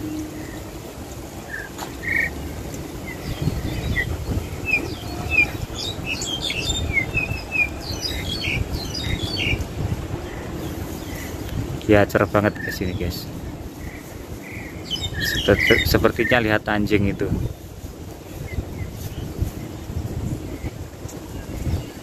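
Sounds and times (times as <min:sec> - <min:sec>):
starlings singing: 0:00.0 - 0:22.0.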